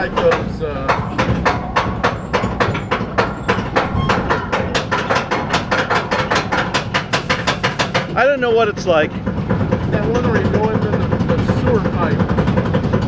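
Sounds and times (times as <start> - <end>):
mechanical hum of lift: 0.0 - 13.0
roller coaster chain lift clicking: 0.0 - 13.0.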